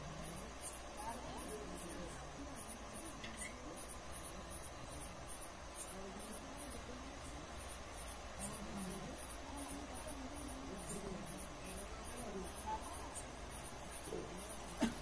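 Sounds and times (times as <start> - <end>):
crickets chirping: 0.0 - 15.0
faint low hum: 0.0 - 15.0.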